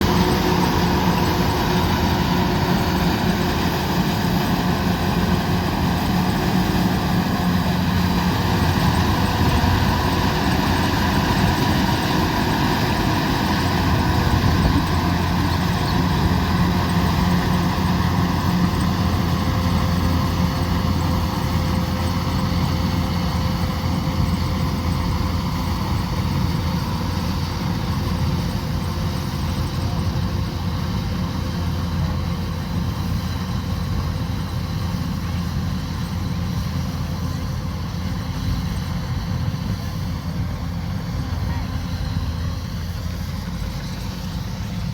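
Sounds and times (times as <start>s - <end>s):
diesel engine drone: 0.0s - 44.9s
threshing machinery whirring: 0.0s - 44.9s.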